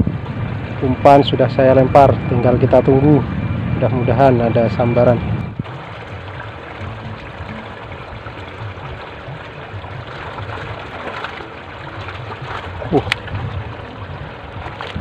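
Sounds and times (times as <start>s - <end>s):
water flowing and trickling: 0.0s - 15.0s.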